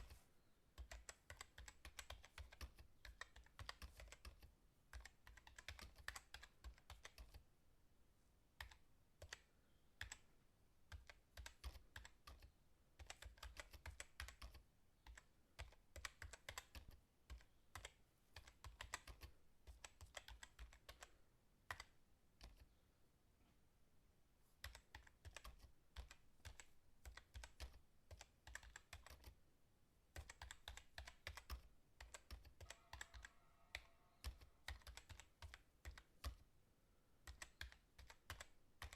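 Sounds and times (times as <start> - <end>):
fast typing on keyboard: 0.8 - 7.4, 8.6 - 10.2, 10.9 - 22.6, 24.6 - 29.4, 30.1 - 36.4, 37.2 - 38.9.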